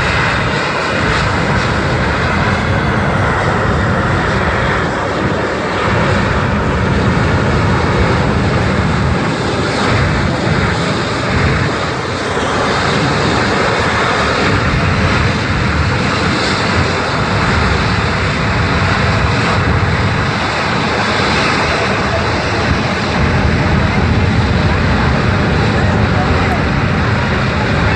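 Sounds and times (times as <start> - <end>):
jet engines running loud: 0.0 - 27.9.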